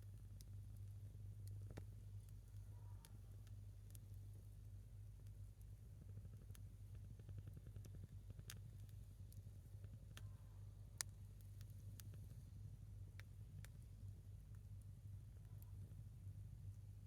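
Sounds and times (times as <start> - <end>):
low steady hum: 0.0 - 17.0
burning log crackling: 0.1 - 17.0.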